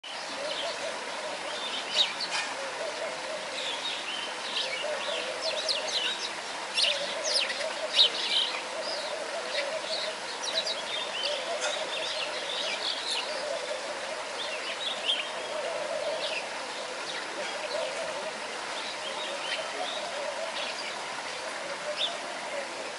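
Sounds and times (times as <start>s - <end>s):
small birds chirping: 0.0s - 22.3s.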